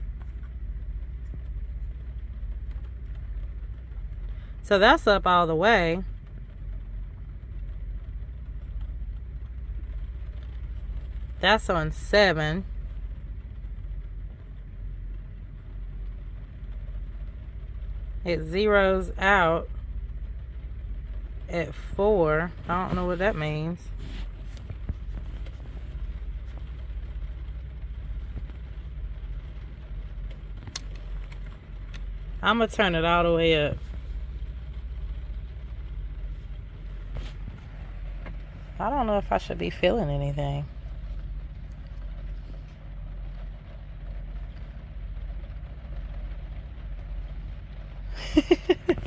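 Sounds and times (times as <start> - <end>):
air heater droning: 0.0 - 49.0
steady low rumble: 0.0 - 49.0.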